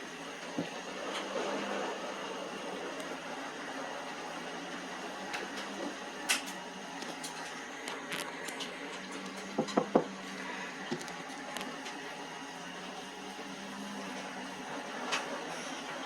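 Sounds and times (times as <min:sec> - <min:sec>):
washing machine hum: 0:00.0 - 0:16.0.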